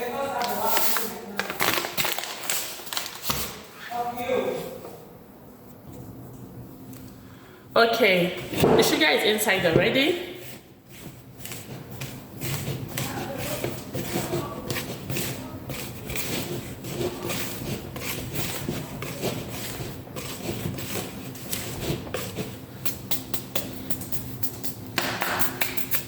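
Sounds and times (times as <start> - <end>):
mixing bowl taps and rustling: 0.0 - 3.6, 8.4 - 26.0.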